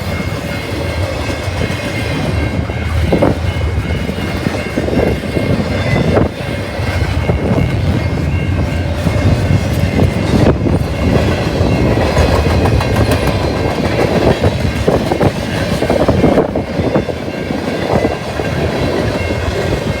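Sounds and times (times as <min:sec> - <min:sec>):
train wheels clattering on rails: 0:00.0 - 0:20.0
wind buffeting microphone: 0:00.0 - 0:20.0.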